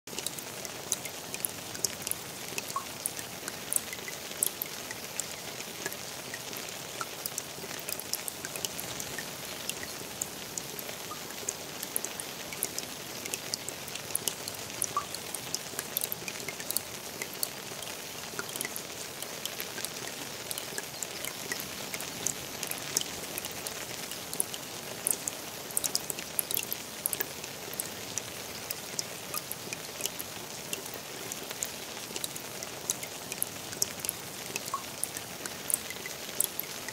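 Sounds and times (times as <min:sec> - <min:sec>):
drops ticking on water: 0:00.1 - 0:36.9
rain hissing on pond: 0:00.1 - 0:36.9.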